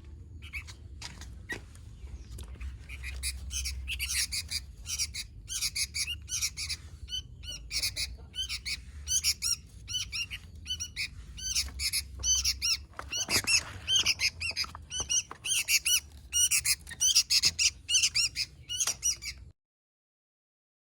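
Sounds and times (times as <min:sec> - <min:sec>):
bird chirping rapidly: 0:00.4 - 0:00.8, 0:01.4 - 0:19.5.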